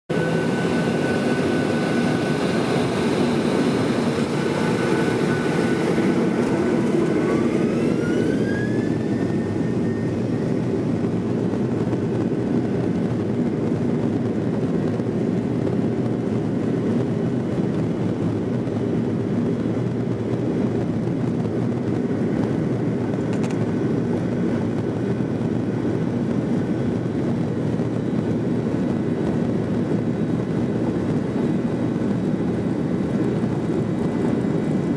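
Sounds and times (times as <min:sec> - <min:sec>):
engine rumble and takeoff roll: 0:00.1 - 0:34.9
jet engine whine: 0:00.1 - 0:34.9.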